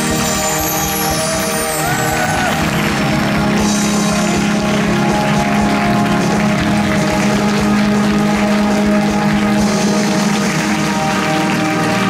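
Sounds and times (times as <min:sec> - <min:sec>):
audience applauding: 0:00.0 - 0:12.0
music with sustained notes: 0:00.0 - 0:12.0.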